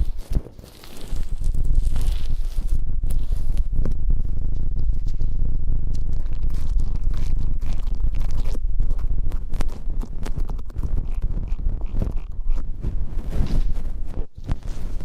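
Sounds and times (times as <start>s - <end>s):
ear-cleaning scraping and scratching: 0.0s - 15.0s
steady low rumble: 0.0s - 15.0s.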